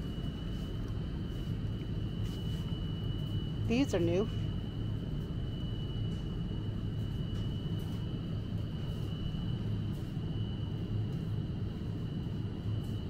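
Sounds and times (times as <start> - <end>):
ventilation and refrigeration hum: 0.0 - 13.0.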